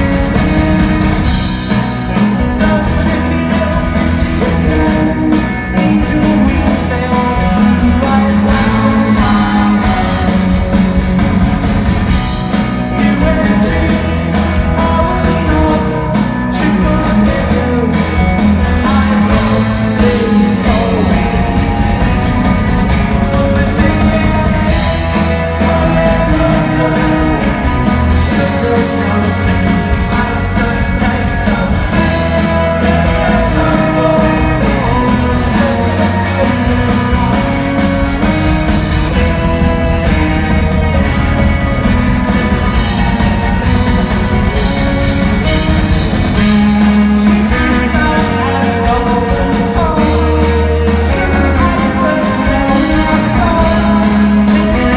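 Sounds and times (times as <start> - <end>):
person singing lead vocal: 0.0 - 41.5, 42.3 - 54.9
drum beat: 0.0 - 54.9
pop-rock band playing: 0.0 - 54.9.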